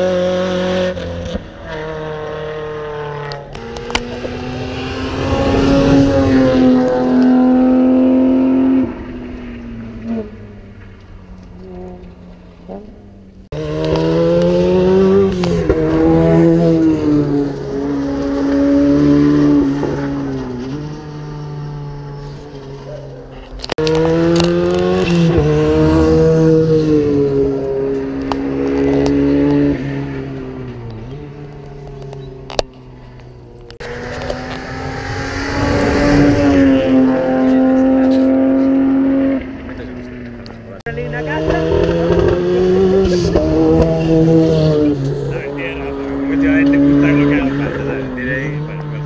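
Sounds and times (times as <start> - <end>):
rally car engines revving: 0.0 - 49.0.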